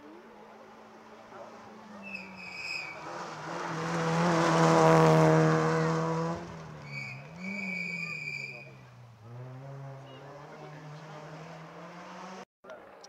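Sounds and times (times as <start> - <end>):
rally car engine at high revs: 0.3 - 12.4.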